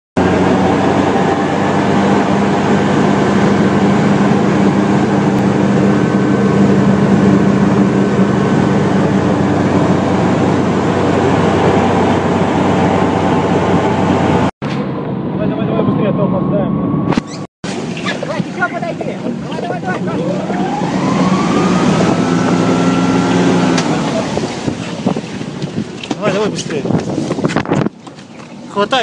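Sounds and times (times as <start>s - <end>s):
hovercraft engine droning: 0.2s - 26.1s.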